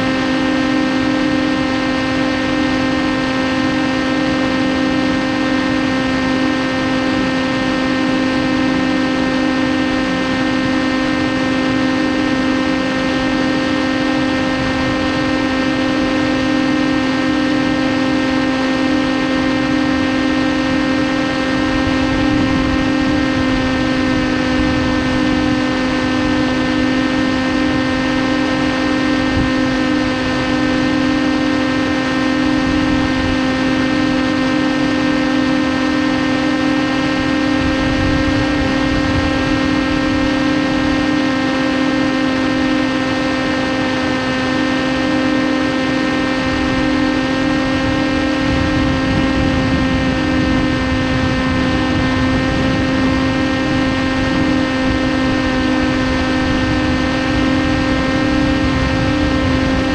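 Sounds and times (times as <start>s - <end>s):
electric motor and propeller droning: 0.0s - 59.9s.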